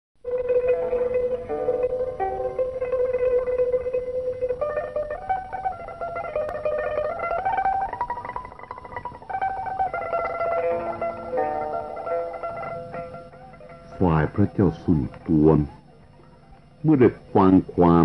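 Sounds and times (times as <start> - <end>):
plucked string instrument melody: 0.2 - 18.0.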